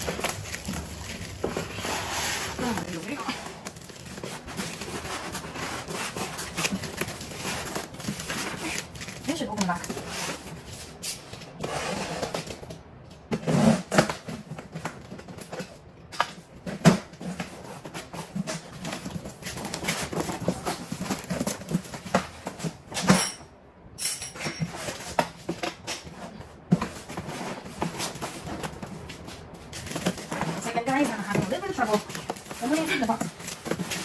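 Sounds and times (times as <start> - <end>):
plastic wrap rustling: 0.0 - 23.0, 24.6 - 34.0
cardboard knocks and scrapes: 0.0 - 23.1, 24.6 - 34.0.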